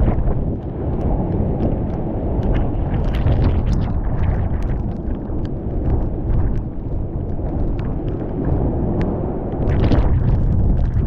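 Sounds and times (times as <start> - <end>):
water ticks on camera: 0.0 - 11.0
wind buffeting microphone: 0.0 - 11.0.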